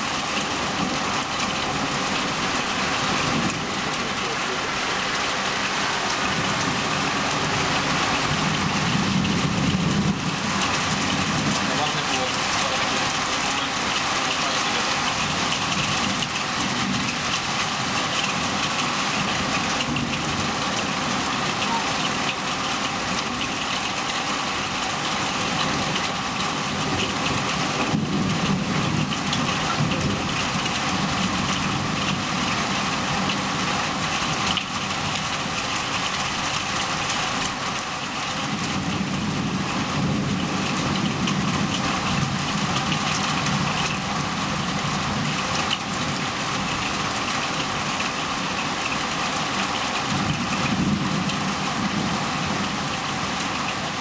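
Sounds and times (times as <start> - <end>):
low thunder rumble: 0.0 - 23.4, 25.5 - 37.4, 38.4 - 47.2, 50.0 - 52.8
heavy rain hissing: 0.0 - 54.0.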